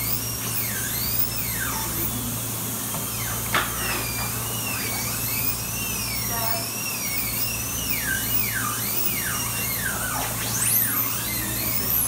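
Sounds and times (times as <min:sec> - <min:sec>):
dental drill whining: 0:00.0 - 0:12.0.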